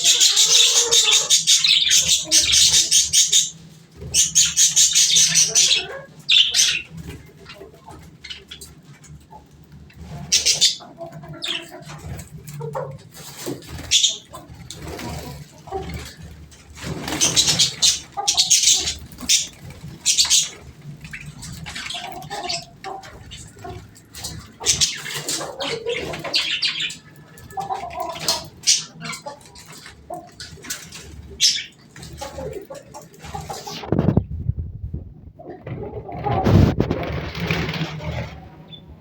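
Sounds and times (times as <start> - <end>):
birds calling: 0.0 - 34.2.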